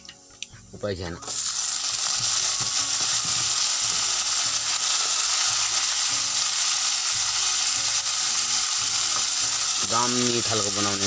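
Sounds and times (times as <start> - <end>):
potatoes sizzling in hot oil: 1.2 - 11.0.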